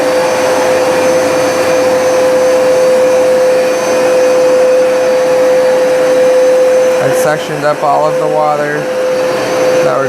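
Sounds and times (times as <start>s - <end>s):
carpet cleaner motor whine: 0.0s - 10.0s
suction air rushing: 0.0s - 10.0s.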